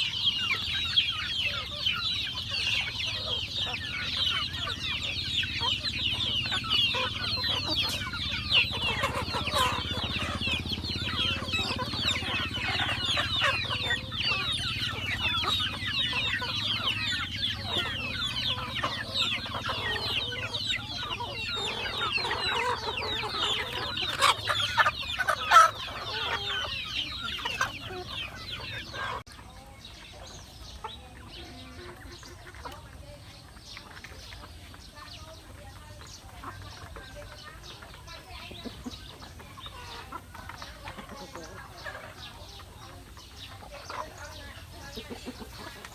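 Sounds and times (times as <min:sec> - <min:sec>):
chickens clucking: 0:00.0 - 0:45.9
chicks peeping: 0:00.0 - 0:45.9.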